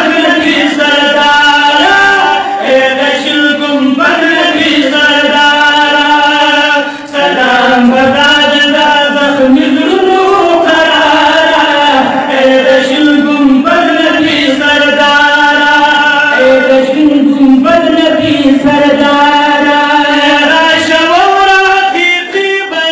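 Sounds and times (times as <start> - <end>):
men chanting into microphones: 0.0 - 22.9.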